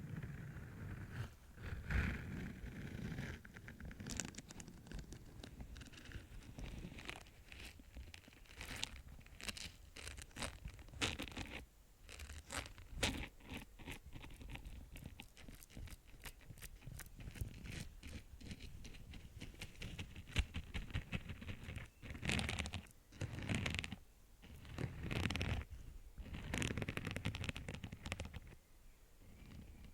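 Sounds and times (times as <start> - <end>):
scratchy rubbing: 0.0 - 28.6, 29.2 - 29.9.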